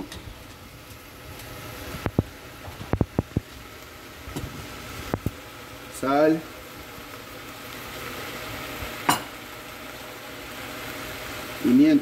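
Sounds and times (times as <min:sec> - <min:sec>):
onion and tomato sizzling in pot: 0:00.0 - 0:12.0.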